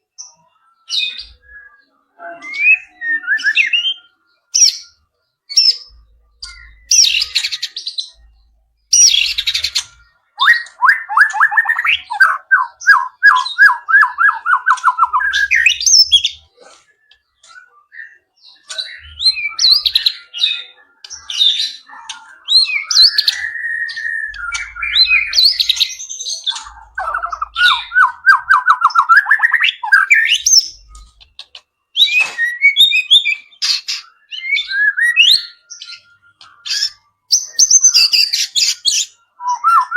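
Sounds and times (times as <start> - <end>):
bird singing whistled phrases: 0.3 - 16.4, 17.0 - 31.2, 31.9 - 39.9.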